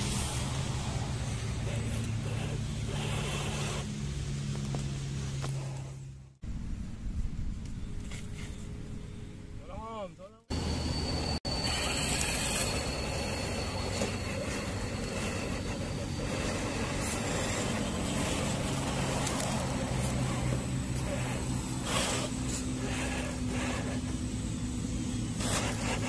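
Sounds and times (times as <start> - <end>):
electric motor and gears whirring: 0.0 - 9.6, 10.3 - 26.0
low drive hum: 0.0 - 26.0.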